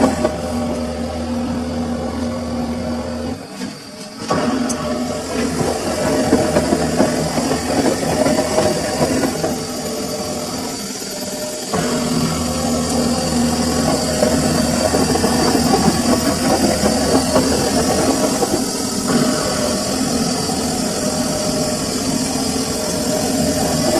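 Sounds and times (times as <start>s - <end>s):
washing machine motor humming: 0.0s - 23.9s.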